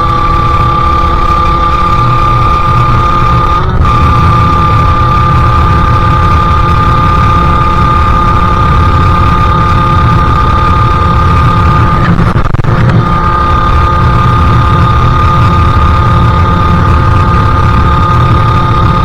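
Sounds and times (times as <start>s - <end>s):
two-stroke engine at high revs: 0.0s - 19.0s
wind rumble on microphone: 0.0s - 19.0s.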